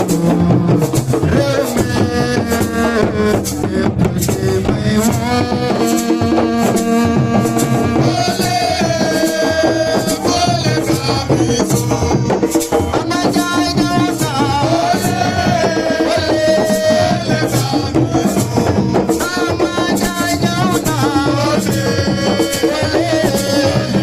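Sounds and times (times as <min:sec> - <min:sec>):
hand drums and percussion: 0:00.0 - 0:24.0
live band music: 0:00.0 - 0:24.0.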